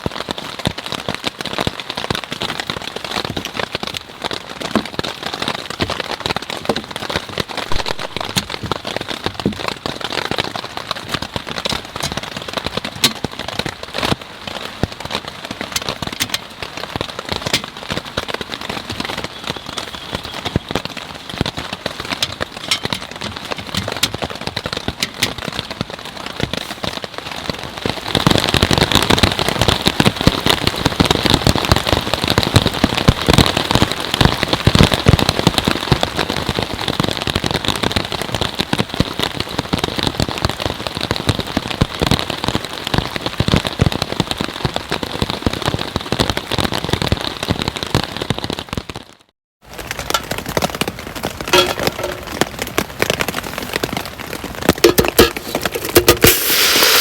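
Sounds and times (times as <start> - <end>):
rain drops ticking on surface: 0.0 - 57.0.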